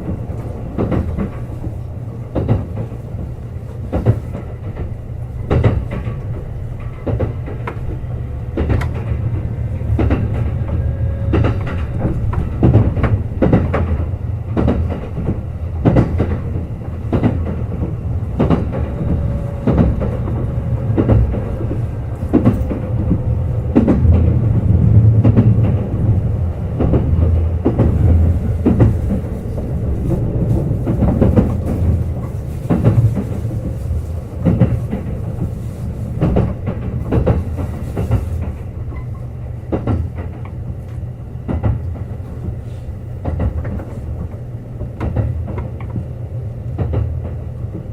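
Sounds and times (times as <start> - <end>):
wheels clicking over rail joints: 0.0 - 46.1
train running low rumble: 0.0 - 47.9.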